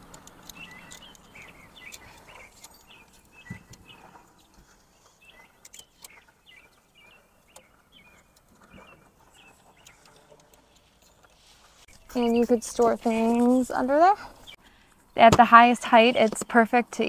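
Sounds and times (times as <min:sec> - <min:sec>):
small birds chirping: 0:00.0 - 0:15.3.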